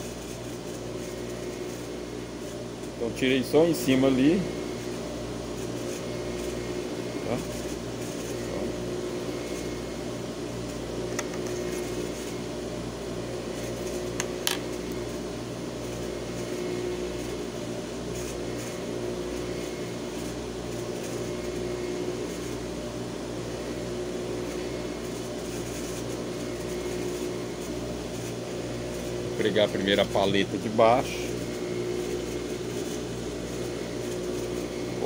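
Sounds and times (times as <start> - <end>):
electric motor humming: 0.0 - 35.0.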